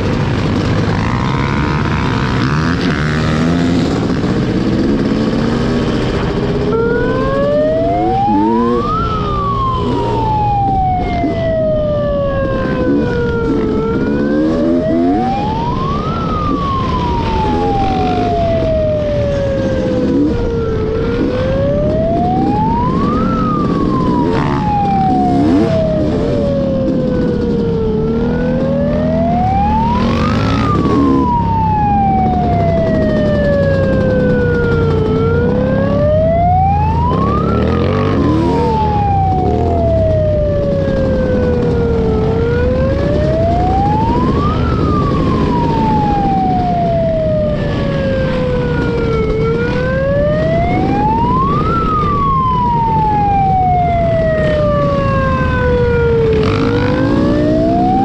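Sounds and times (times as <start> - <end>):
wailing siren: 0.0 - 58.0.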